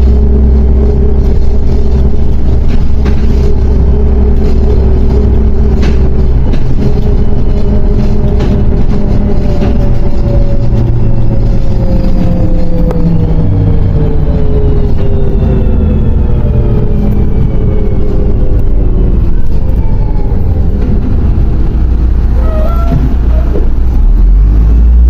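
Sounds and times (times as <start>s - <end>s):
bus engine rumble: 0.0s - 25.0s
drivetrain whine: 0.0s - 25.0s.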